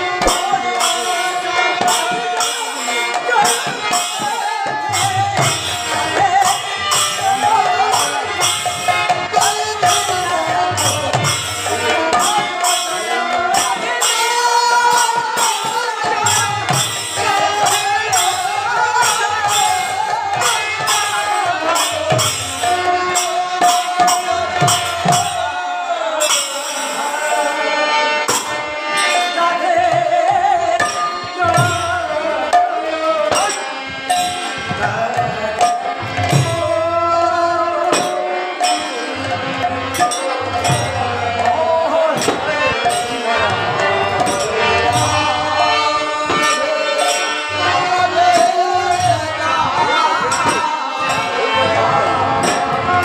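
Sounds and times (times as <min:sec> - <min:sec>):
harmonium: 0:00.0 - 0:53.0
man singing: 0:00.0 - 0:53.0.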